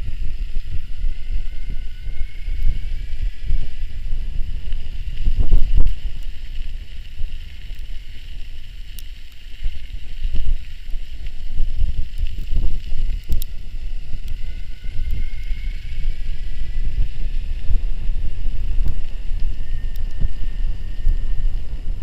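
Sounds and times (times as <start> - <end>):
steady high whine: 0.0 - 22.0
wind buffeting microphone: 0.0 - 22.0.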